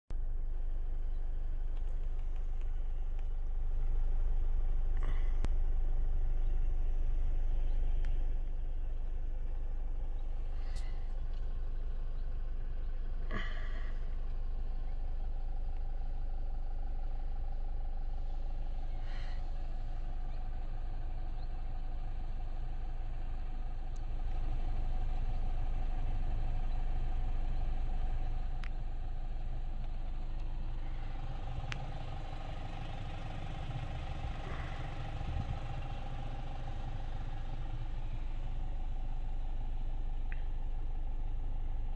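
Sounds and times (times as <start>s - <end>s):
car engine idling: 0.1s - 41.9s.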